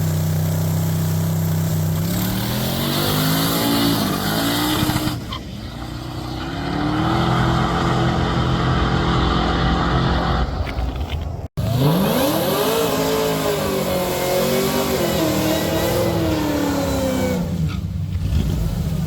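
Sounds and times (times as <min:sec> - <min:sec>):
drag car engine revving: 0:00.0 - 0:10.5, 0:11.6 - 0:19.0.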